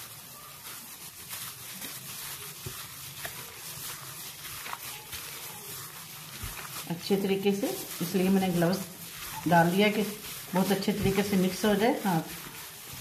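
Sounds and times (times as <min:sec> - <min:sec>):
wet squelching of hand mixing: 0:00.0 - 0:13.0.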